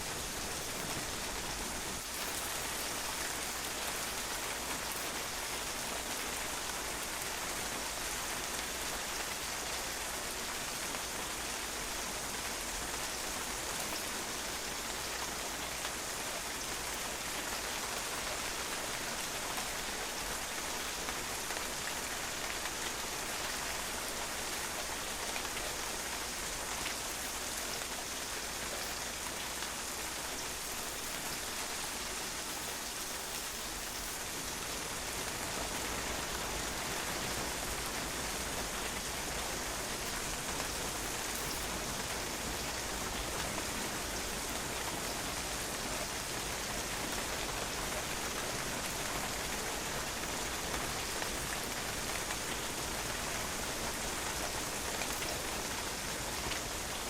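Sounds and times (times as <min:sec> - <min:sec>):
rain on hard patio: 0:00.0 - 0:57.0.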